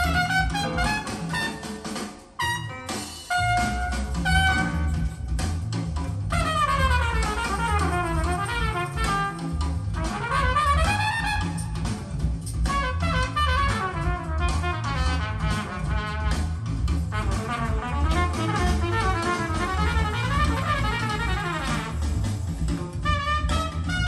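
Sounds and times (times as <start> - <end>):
steady bass line: 0.0 - 1.8, 2.4 - 24.0
jazz with brass lead: 0.0 - 24.0.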